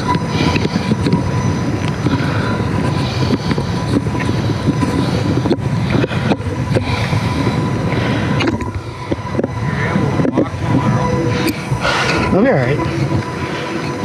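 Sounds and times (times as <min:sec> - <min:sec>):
bike and camera rattling: 0:00.0 - 0:14.0
bike tyres rumbling on trail: 0:00.0 - 0:14.0.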